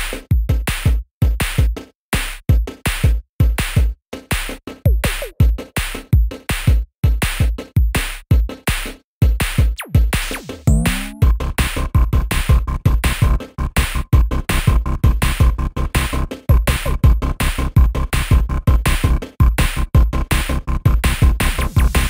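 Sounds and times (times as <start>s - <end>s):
electronic music with drum-machine beat: 0.0s - 22.0s.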